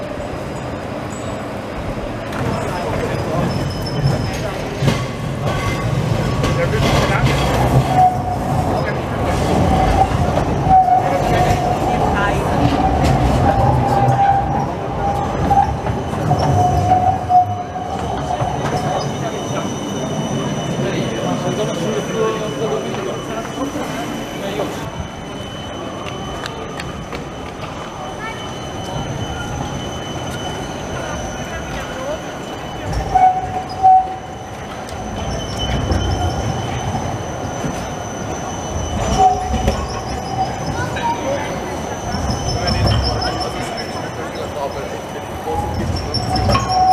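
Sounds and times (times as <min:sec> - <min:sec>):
tram wheels rumbling on rails: 0:00.0 - 0:46.9
wavering squeal: 0:07.4 - 0:46.9.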